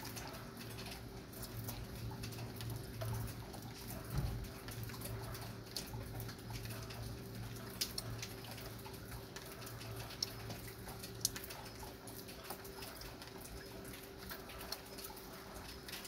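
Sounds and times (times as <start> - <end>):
light rain hissing: 0.0 - 16.0
raindrops ticking: 0.0 - 16.0.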